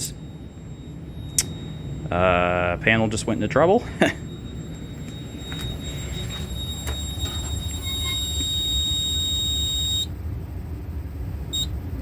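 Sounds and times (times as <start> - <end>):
high-pitched alarm panel tone: 0.0 - 10.1, 11.5 - 11.8
low background rumble: 0.0 - 12.0.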